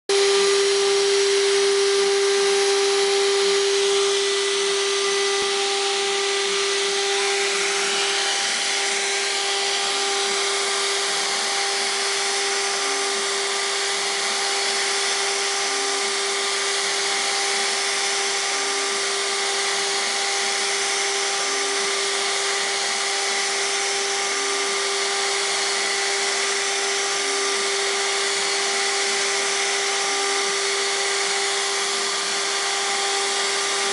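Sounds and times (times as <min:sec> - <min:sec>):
router spindle whining: 0:00.1 - 0:33.9.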